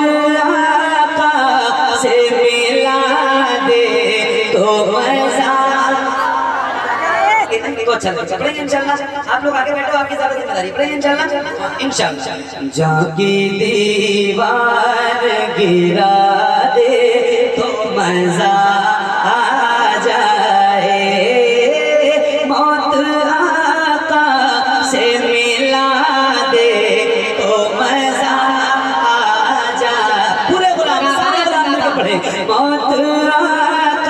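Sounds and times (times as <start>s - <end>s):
man singing into microphone: 0.0s - 6.5s, 7.4s - 34.0s.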